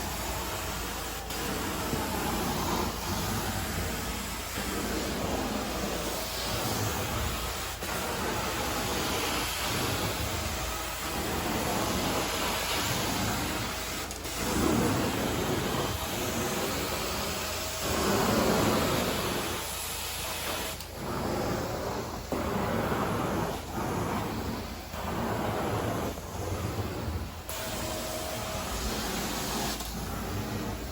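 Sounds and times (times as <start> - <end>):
carpet cleaning machine hissing: 0.0 - 30.9.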